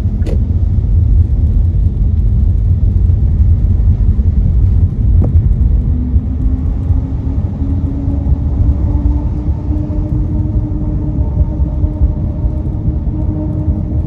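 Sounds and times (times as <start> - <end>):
road rumble of car: 0.0 - 14.0.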